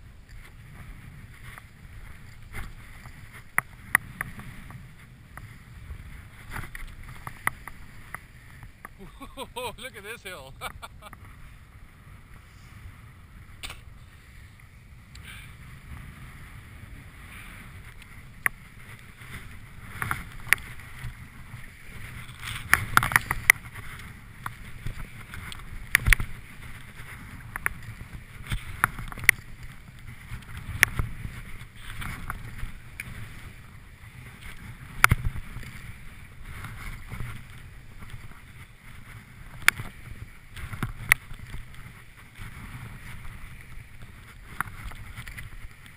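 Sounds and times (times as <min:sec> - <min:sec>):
skis swishing through snow: 0:00.1 - 0:45.9.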